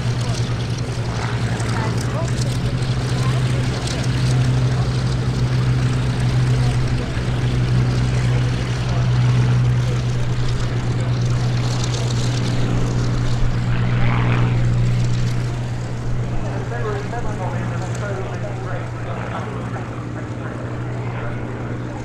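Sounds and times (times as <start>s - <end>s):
aircraft engine droning: 0.0s - 22.0s.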